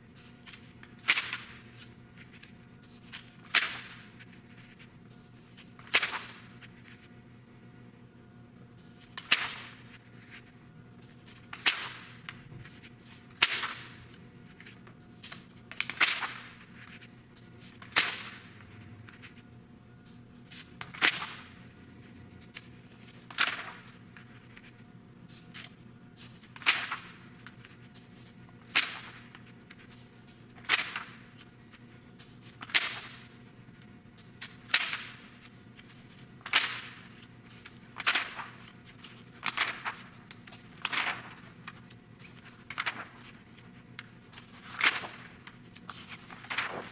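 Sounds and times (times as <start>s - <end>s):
magazine pages turning: 0.2s - 7.1s, 8.8s - 46.9s.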